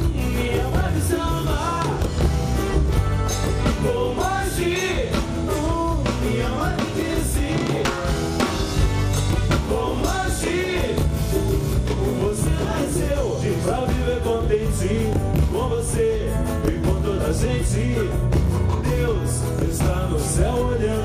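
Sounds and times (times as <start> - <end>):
bass and drum groove: 0.0 - 21.0
live samba-rock band: 0.0 - 21.0.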